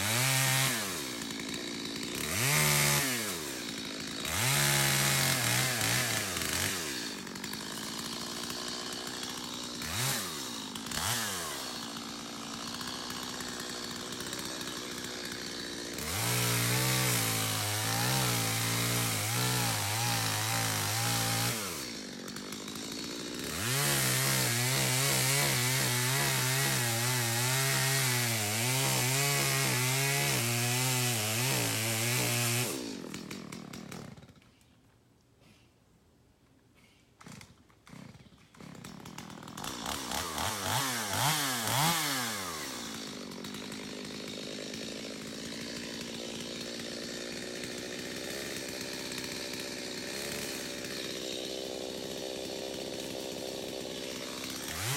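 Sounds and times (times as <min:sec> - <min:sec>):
chainsaw cutting wood: 0:00.0 - 0:34.8, 0:36.8 - 0:54.9.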